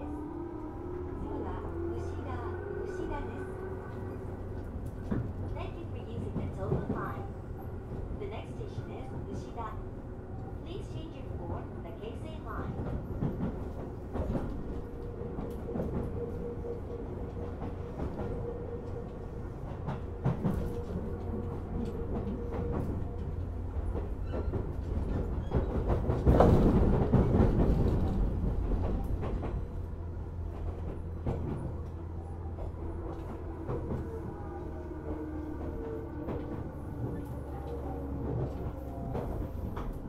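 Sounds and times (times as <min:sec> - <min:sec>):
train rumble: 0:00.0 - 0:40.0
rail joint clicks: 0:00.6 - 0:40.0.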